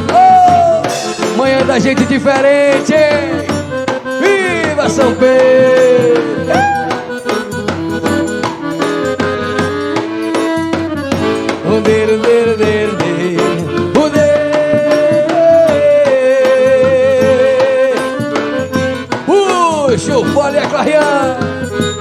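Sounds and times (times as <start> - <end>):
accordion melody: 0.0 - 22.0
steady percussion beat: 0.0 - 22.0.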